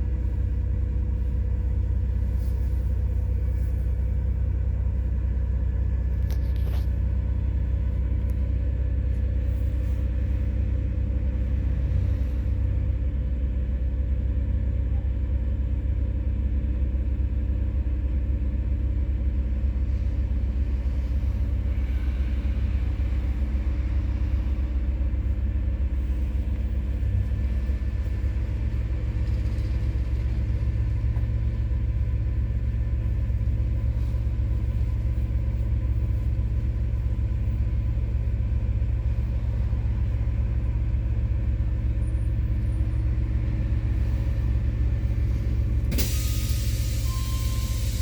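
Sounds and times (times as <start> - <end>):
bus engine rumbling: 0.0 - 48.0.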